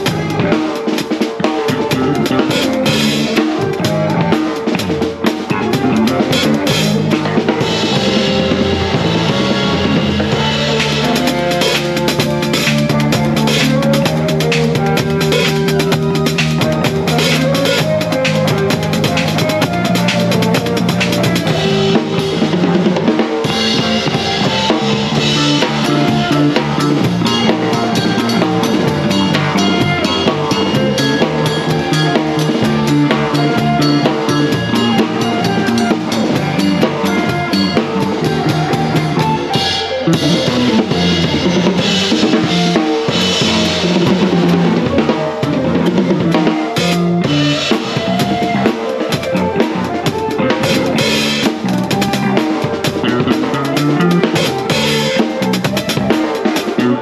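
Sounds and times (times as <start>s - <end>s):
band instruments: 0.0s - 57.0s
drum kit groove: 0.0s - 57.0s.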